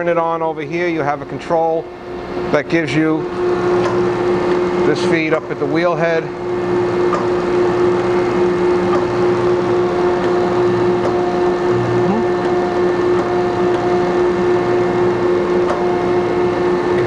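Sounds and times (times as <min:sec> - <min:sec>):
grinding machine humming: 0:00.4 - 0:17.0.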